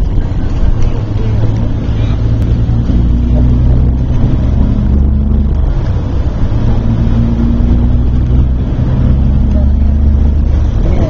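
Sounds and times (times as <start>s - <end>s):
bus engine and tyres rumbling: 0.0s - 11.0s.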